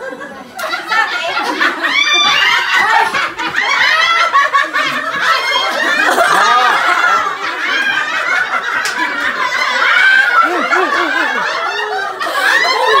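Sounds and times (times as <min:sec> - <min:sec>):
group of people laughing: 0:00.0 - 0:13.0
overlapping voices chatting: 0:00.0 - 0:13.0.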